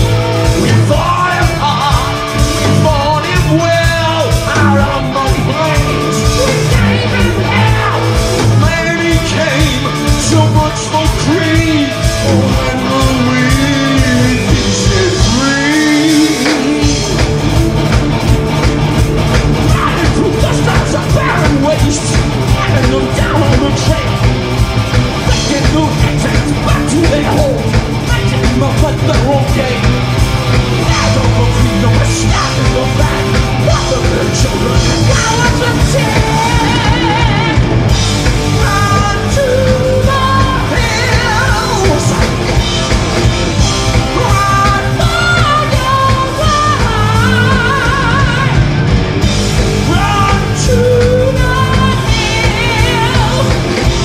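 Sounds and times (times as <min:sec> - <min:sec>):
heavy metal band playing: 0:00.0 - 0:54.0
singer belting and shouting: 0:00.0 - 0:54.0.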